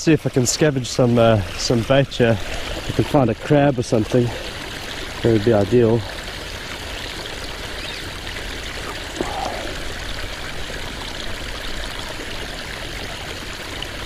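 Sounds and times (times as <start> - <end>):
stream trickling over rocks: 0.0 - 14.0.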